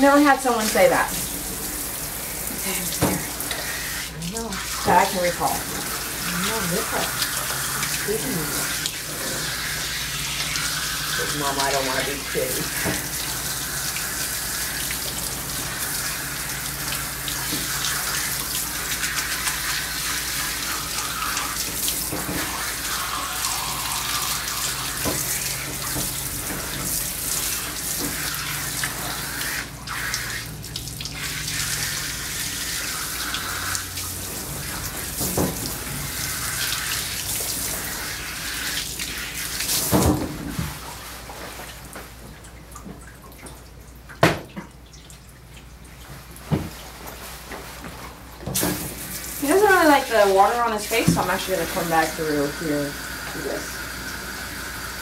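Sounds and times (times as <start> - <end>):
water sprayer hissing: 0.0 - 40.1, 48.6 - 55.0
water spattering into tub: 0.0 - 42.2, 48.5 - 54.7.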